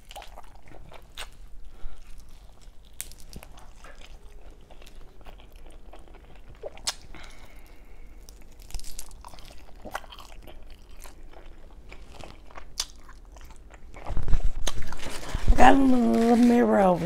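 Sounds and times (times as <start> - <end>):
person chewing: 0.0 - 15.5.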